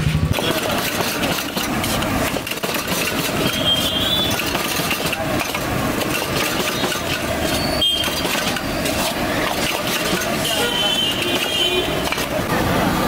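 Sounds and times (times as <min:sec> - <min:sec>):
gas burners roaring: 0:00.0 - 0:13.0
metal spatula scraping a wok: 0:00.4 - 0:12.4.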